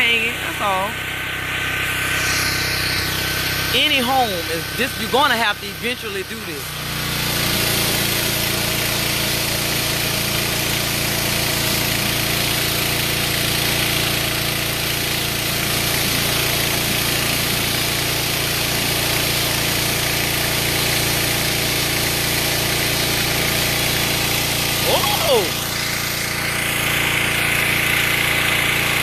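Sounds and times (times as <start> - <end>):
pressure washer engine running: 0.0 - 29.0
high-pressure water spray hiss: 1.6 - 4.7, 6.7 - 29.0.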